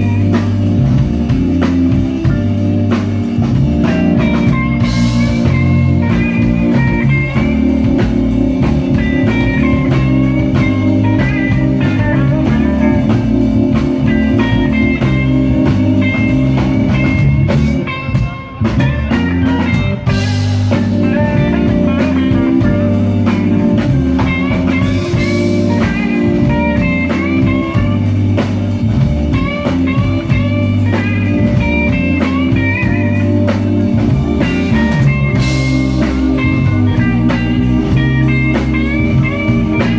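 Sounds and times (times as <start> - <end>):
bass and drums: 0.0 - 39.9
electric guitar lead: 0.0 - 39.9.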